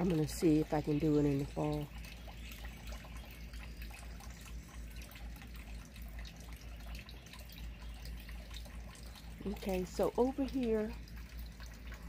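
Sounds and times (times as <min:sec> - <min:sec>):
fountain water trickling and splashing: 0:00.0 - 0:12.0
small water drips: 0:00.0 - 0:12.0.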